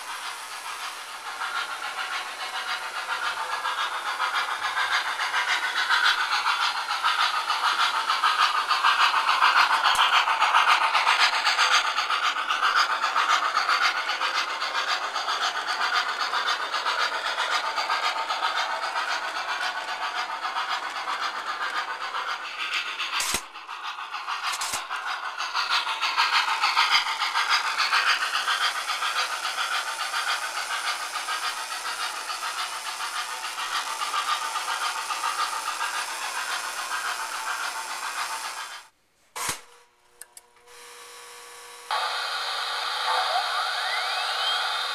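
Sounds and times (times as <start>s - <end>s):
model train rolling clatter: 0.0s - 39.6s.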